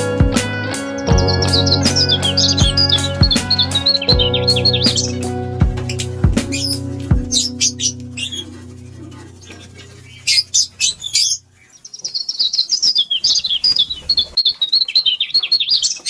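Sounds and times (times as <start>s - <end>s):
lovebirds chirping: 1.2s - 16.0s.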